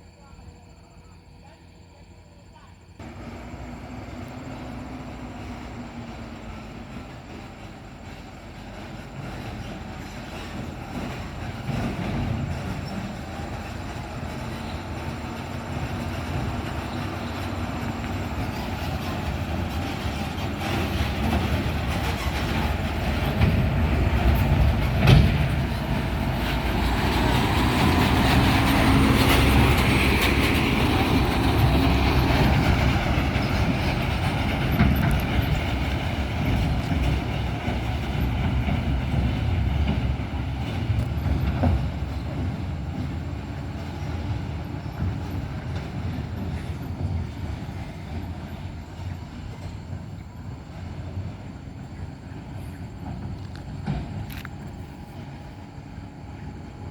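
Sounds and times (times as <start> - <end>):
diesel truck engine labouring: 3.0 - 56.9.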